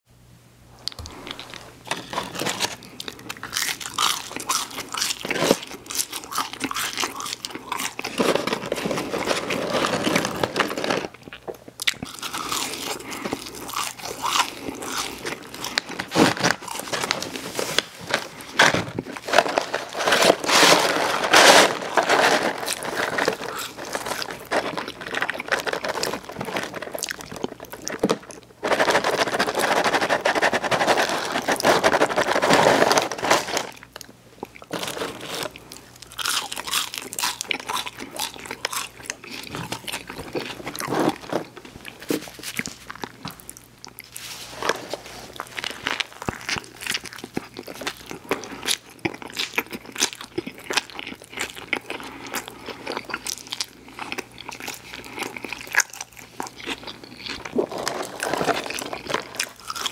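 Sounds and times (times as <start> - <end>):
crunchy bites and chewing: 0.8 - 44.2, 45.0 - 59.9.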